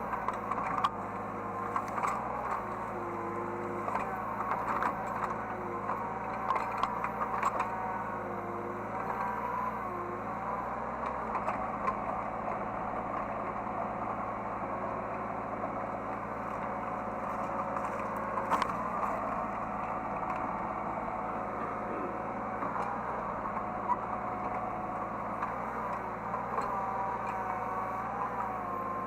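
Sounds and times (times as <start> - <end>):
excavator engine drone: 0.0 - 29.0.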